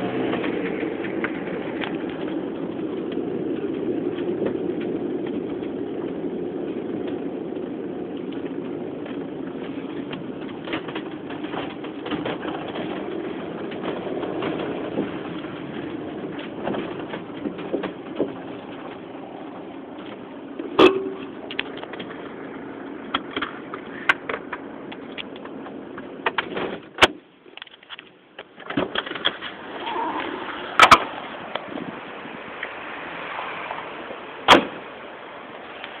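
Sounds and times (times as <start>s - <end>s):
car engine hum and road noise: 0.0s - 36.0s.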